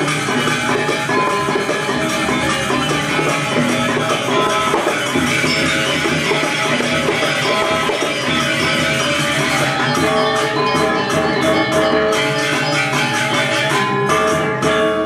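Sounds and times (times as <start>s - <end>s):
drums: 0.0s - 15.0s
gamelan ensemble playing: 0.0s - 15.0s
metallophones and gongs ringing: 0.0s - 15.0s.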